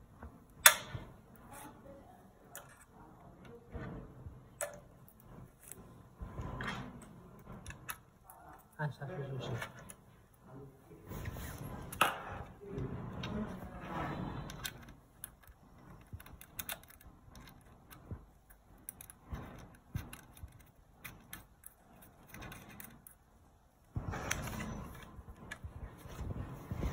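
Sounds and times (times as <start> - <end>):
cables rustling: 0.1 - 26.9.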